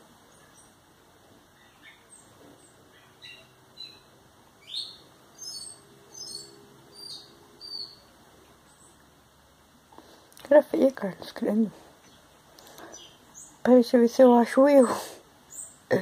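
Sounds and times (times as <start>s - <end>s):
small bird chirping: 0.2s - 0.9s, 1.5s - 9.1s, 11.4s - 16.0s.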